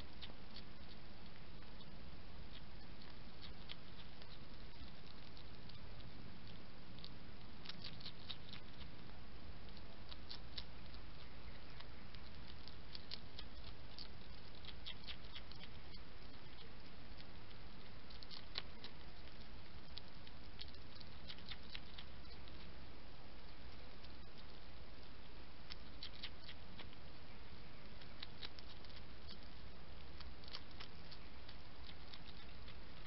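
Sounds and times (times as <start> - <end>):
hedgehog crunching food: 0.0 - 33.0.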